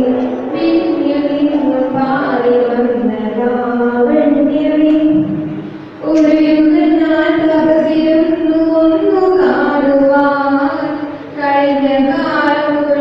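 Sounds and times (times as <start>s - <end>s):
girl singing into a microphone: 0.0s - 13.0s.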